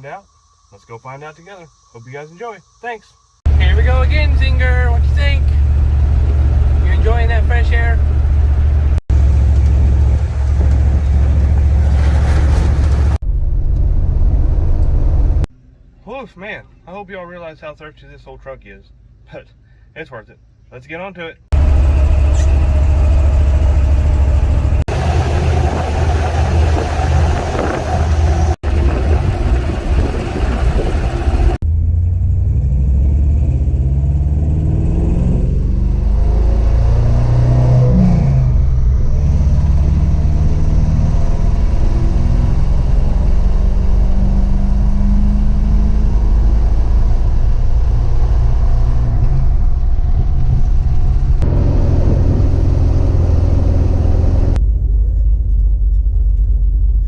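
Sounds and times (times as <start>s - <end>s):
road noise: 0.0s - 17.6s, 21.5s - 57.0s
truck engine: 3.5s - 15.5s, 21.5s - 57.0s.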